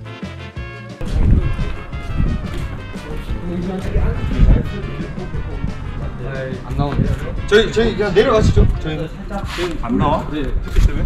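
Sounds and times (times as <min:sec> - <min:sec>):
background music: 0:00.0 - 0:11.0
low thumps and rumble: 0:01.0 - 0:11.0.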